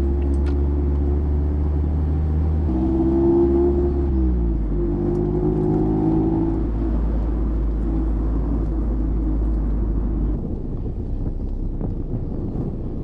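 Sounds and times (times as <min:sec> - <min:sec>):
car engine rumbling at low revs: 0:00.0 - 0:13.0.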